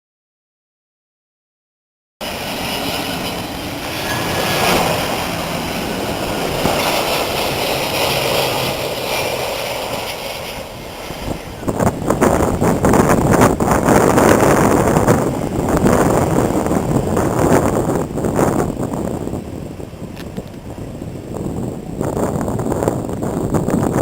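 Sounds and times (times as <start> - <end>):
jet engines roaring: 2.2 - 24.0
wind buffeting microphone: 2.2 - 24.0.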